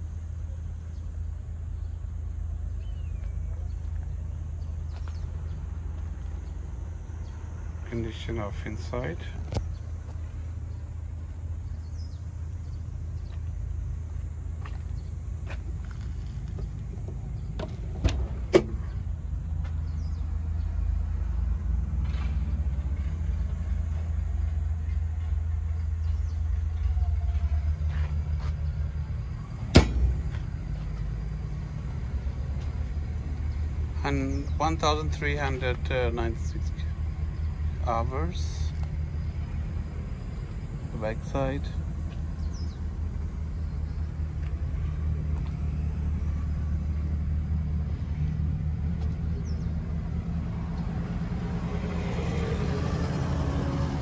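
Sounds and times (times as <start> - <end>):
steady low rumble: 0.0 - 52.8
engine idling: 0.0 - 54.0.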